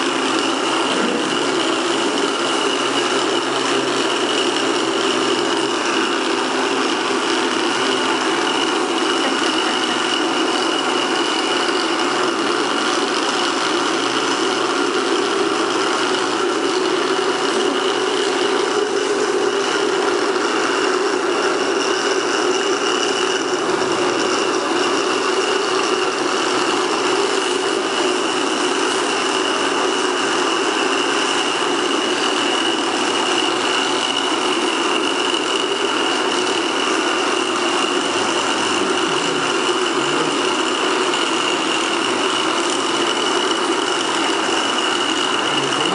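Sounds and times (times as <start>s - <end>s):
small electric motors buzzing: 0.0s - 45.9s.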